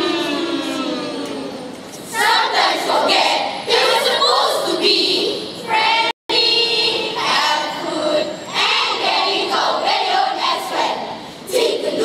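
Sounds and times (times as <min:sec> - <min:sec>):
children reciting and singing: 0:02.1 - 0:12.0.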